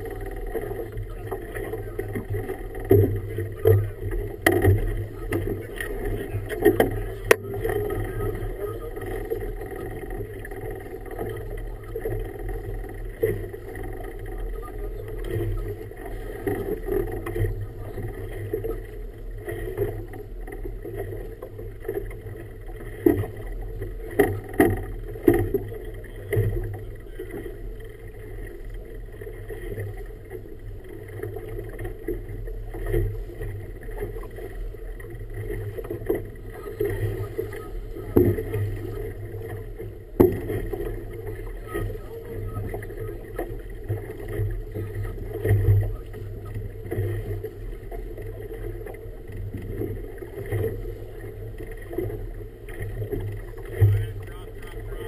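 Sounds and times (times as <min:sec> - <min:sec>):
steady low hum: 0:00.0 - 0:55.0
water sloshing against boat hull: 0:00.0 - 0:55.0
waves slapping hull: 0:00.0 - 0:55.0.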